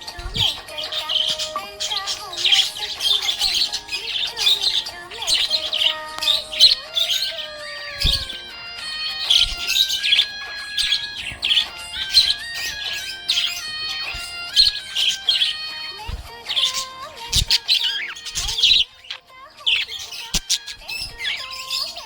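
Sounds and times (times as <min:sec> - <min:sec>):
background music with held notes: 0:00.0 - 0:22.0
budgerigar chirping: 0:00.0 - 0:22.0.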